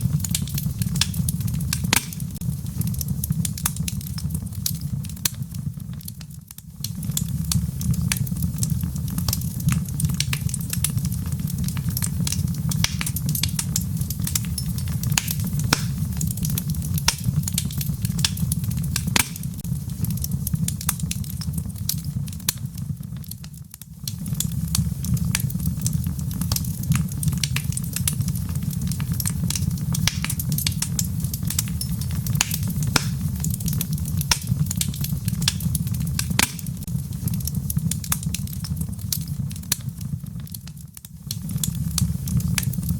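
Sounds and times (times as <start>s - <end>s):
rain pattering: 0.0s - 42.9s
wood fire crackling: 0.0s - 42.9s.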